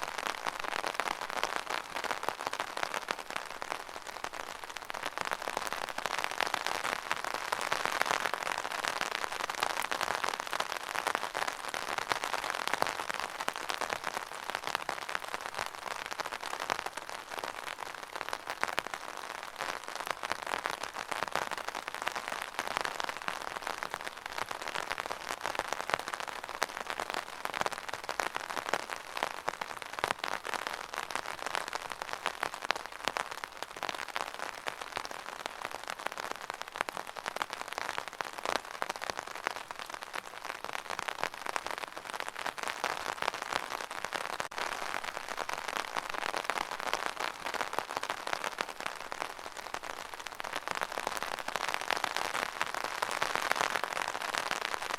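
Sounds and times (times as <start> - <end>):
rain patter: 0.0 - 54.9.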